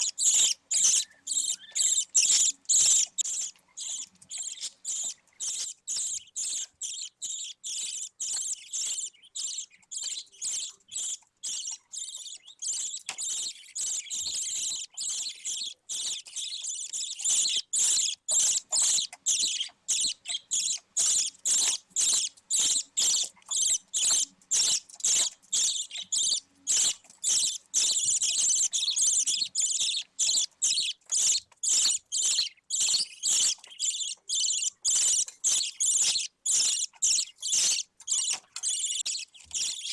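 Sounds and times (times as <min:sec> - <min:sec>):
budgie chick cheeping: 0:00.0 - 0:39.9.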